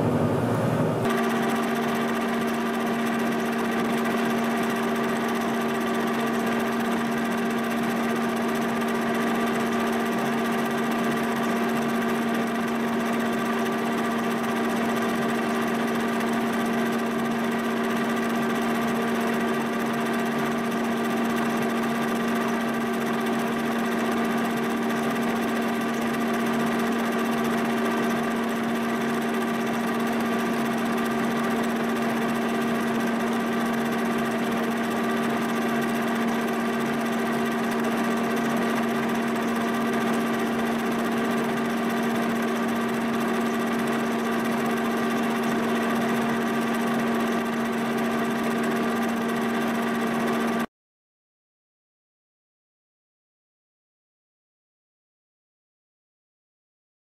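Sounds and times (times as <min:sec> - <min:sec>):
milling machine humming: 0:00.0 - 0:50.6.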